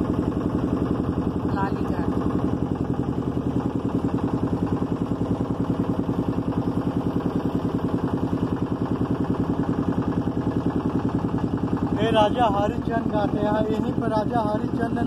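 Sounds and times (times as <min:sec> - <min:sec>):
motorboat engine chugging: 0:00.0 - 0:15.0.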